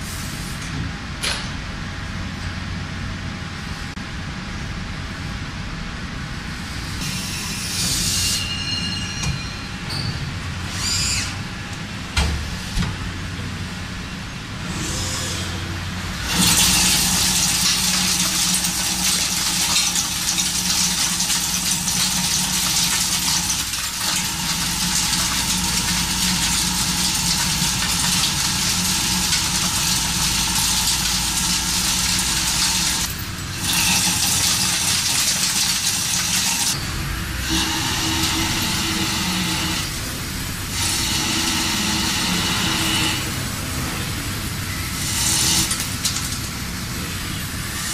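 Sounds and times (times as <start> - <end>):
machinery humming: 1.8 - 47.9.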